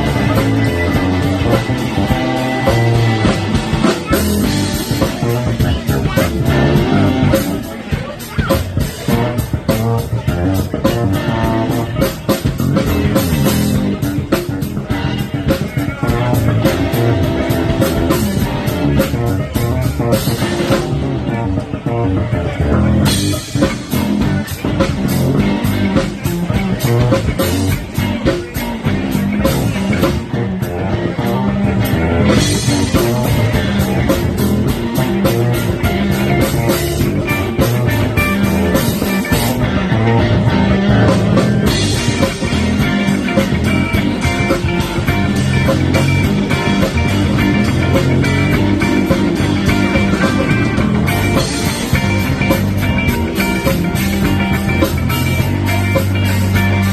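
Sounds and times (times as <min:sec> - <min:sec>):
drum kit: 0:00.0 - 0:56.9
electric bass: 0:00.0 - 0:56.9
electric guitar: 0:00.0 - 0:56.9.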